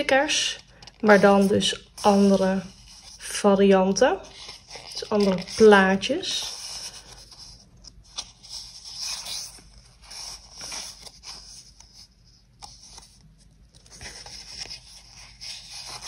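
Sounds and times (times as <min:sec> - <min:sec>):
paper sheets rustling: 0:00.0 - 0:03.4, 0:04.2 - 0:16.0.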